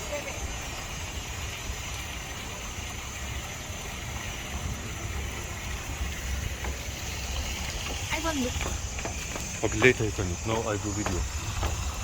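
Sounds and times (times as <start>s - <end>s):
even hiss: 0.0s - 12.0s.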